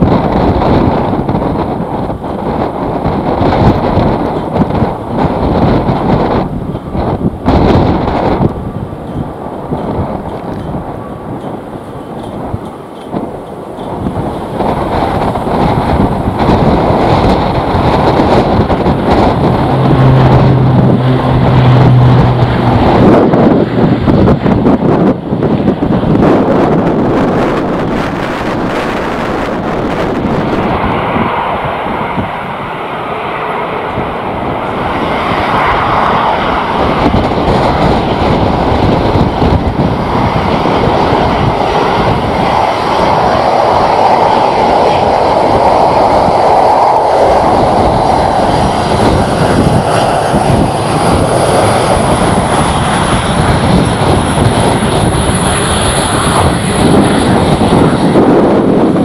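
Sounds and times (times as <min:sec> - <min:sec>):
airliner engines: 0:00.0 - 0:59.0.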